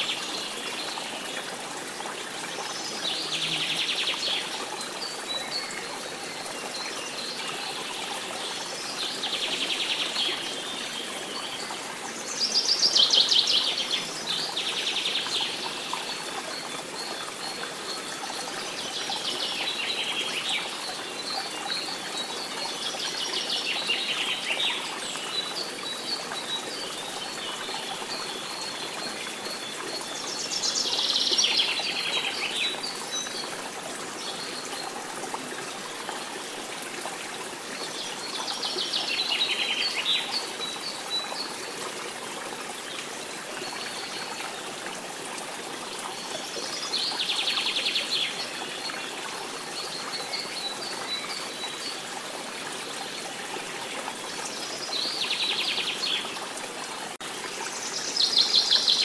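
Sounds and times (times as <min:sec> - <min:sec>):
running stream water: 0:00.0 - 0:59.0.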